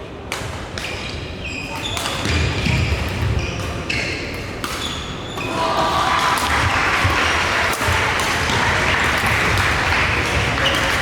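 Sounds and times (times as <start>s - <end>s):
racket hits echoing in a hall: 0.0s - 11.0s.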